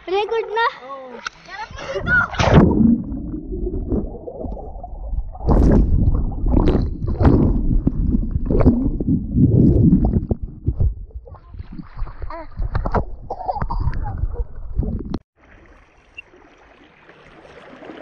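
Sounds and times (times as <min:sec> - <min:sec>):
water splashing and crackling: 0:00.0 - 0:18.0
muffled underwater water rushing: 0:01.8 - 0:18.0.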